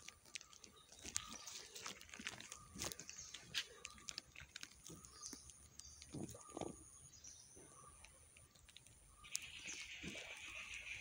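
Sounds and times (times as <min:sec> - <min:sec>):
dull crunches: 0:00.0 - 0:11.0.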